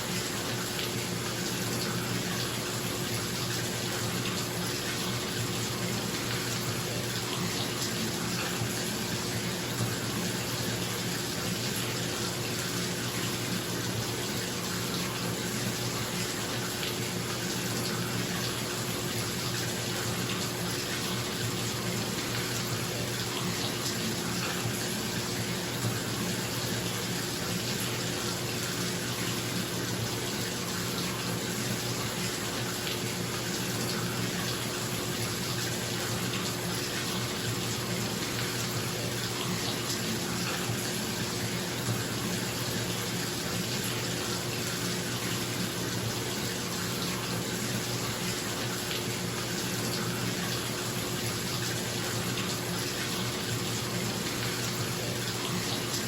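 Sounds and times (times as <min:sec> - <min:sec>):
tap water running into bathtub: 0:00.0 - 0:56.0.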